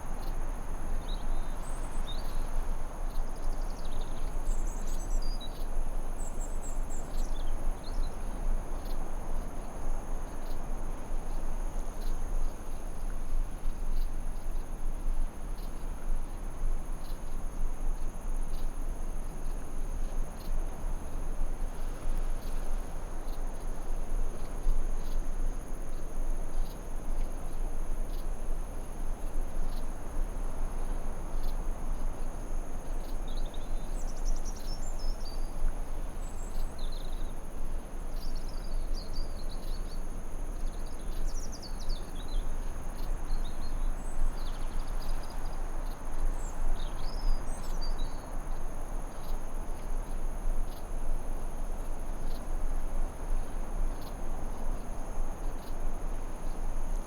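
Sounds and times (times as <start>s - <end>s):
background hiss: 0.0s - 57.0s.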